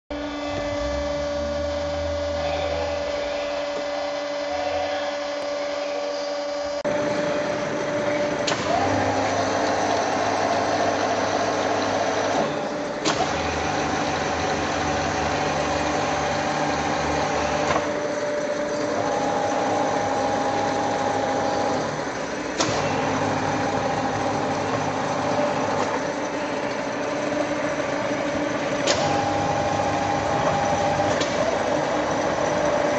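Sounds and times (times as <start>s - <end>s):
milling machine hum and whine: 0.1s - 32.9s.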